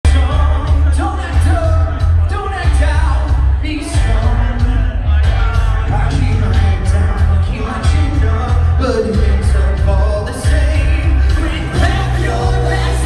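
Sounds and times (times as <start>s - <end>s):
live rock band playing: 0.0s - 13.0s
man singing: 0.0s - 13.0s.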